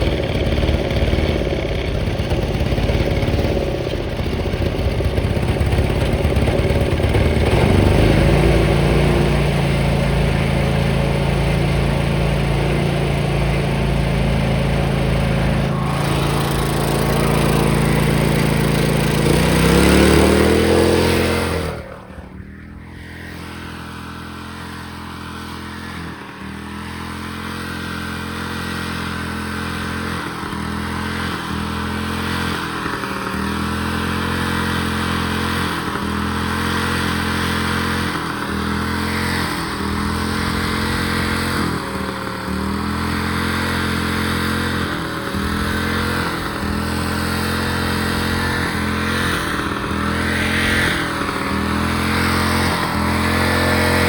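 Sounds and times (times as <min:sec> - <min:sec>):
tractor engine at full throttle: 0:00.0 - 0:54.0.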